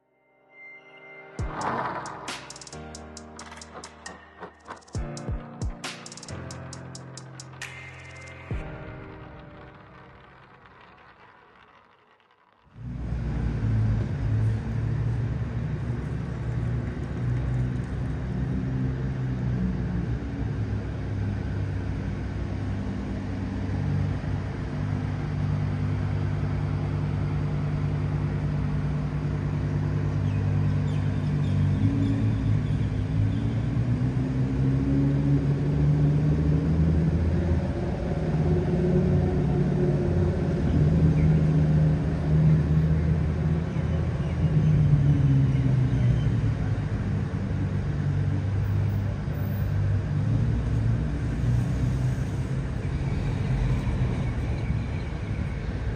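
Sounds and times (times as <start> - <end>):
idling traffic hum: 1.4 - 55.9
vehicle speeding up: 1.4 - 55.9.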